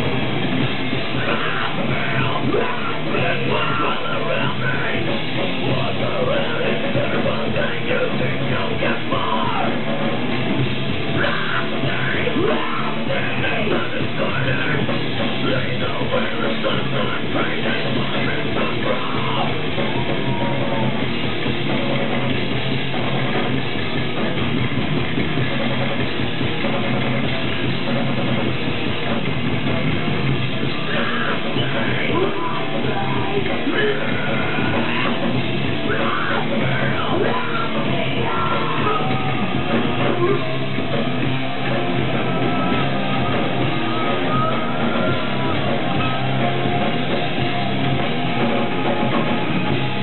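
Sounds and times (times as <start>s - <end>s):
heavy metal band playing live: 0.0s - 50.0s.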